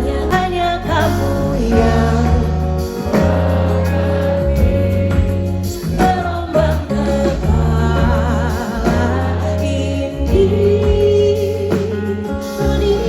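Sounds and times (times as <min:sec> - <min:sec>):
live band playing pop ballad: 0:00.0 - 0:13.0.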